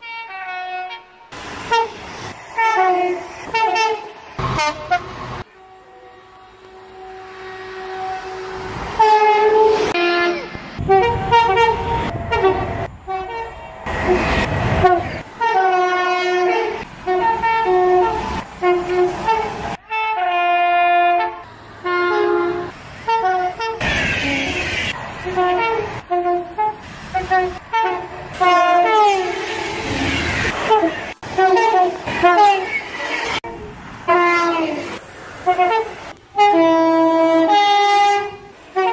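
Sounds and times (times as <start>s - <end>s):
trains passing: 0.0s - 38.9s
two-tone train horns: 0.0s - 38.9s.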